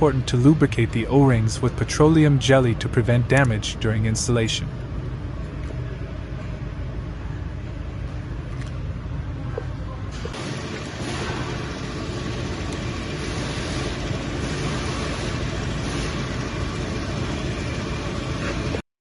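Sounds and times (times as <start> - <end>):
low hum: 0.0 - 18.8
steady loud noise: 0.0 - 18.8.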